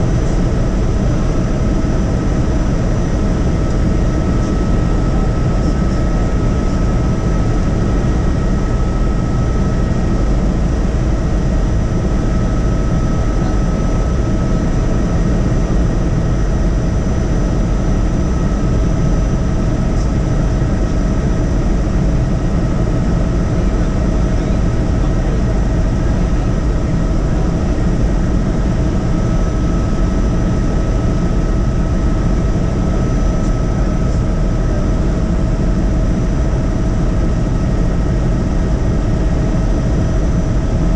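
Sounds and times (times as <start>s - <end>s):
helicopter rotor and engine rumble: 0.0s - 40.9s.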